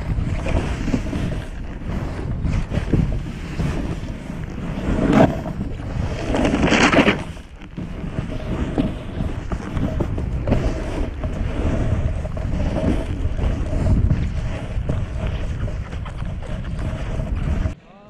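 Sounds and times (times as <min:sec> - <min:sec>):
snowboard carving through snow: 0:00.0 - 0:17.8
wind buffeting microphone: 0:00.0 - 0:17.8.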